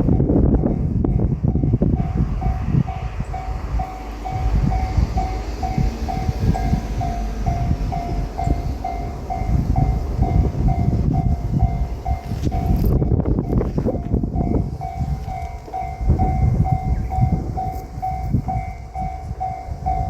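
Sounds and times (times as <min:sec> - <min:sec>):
diesel train rumbling past: 0:00.0 - 0:20.0
railroad crossing bell ringing: 0:00.0 - 0:20.0.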